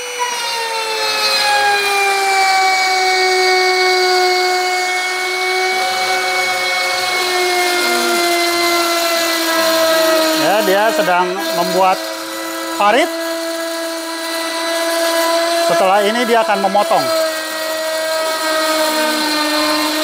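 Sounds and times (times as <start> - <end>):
wood router whining: 0.0 - 20.0.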